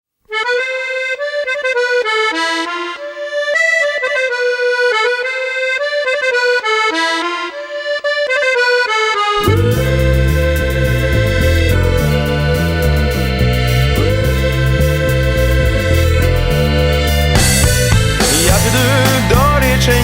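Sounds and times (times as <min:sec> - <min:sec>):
solo accordion melody: 0:00.3 - 0:20.0.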